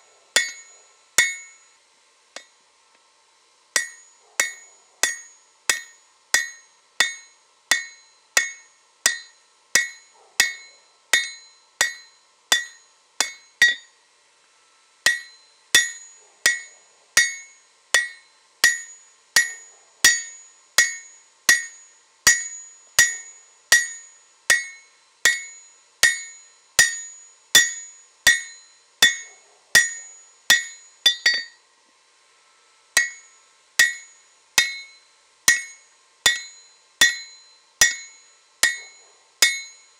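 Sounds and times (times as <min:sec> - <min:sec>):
hammer striking metal on anvil: 0:00.4 - 0:01.7, 0:03.8 - 0:13.9, 0:15.0 - 0:31.6, 0:33.0 - 0:39.9.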